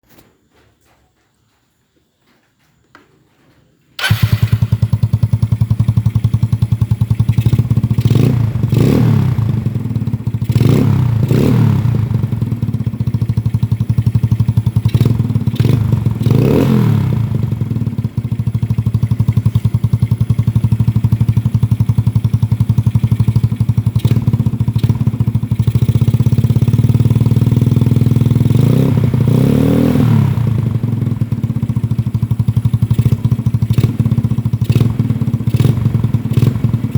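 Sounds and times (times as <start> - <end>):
scooter engine idling and revving: 4.0 - 36.9.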